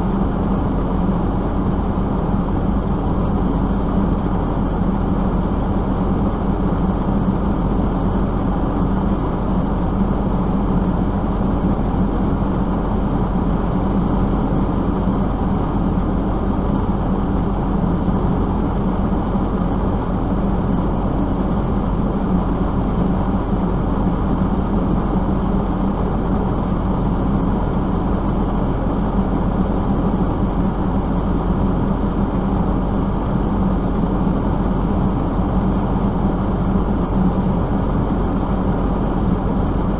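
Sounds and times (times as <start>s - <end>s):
vehicle engine drone: 0.0s - 39.9s.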